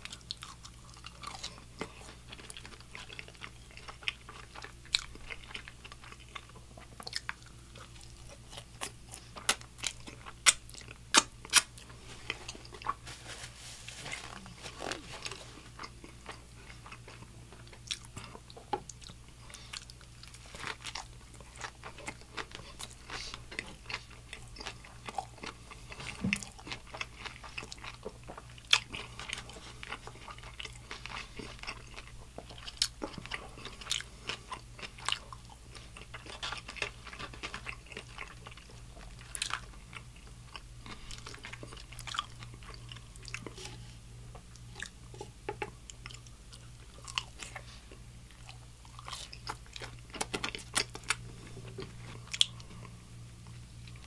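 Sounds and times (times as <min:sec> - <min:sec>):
wet chewing: 0:00.0 - 0:13.0, 0:14.3 - 0:54.0
crunching of crispy food: 0:00.0 - 0:54.0
low steady hum: 0:00.0 - 0:54.0.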